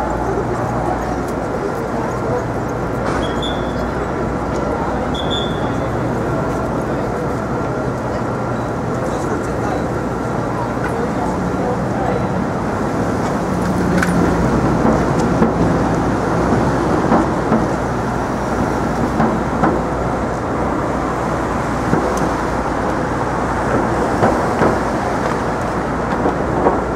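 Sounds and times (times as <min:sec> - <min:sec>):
traffic rumble: 0:00.0 - 0:26.9.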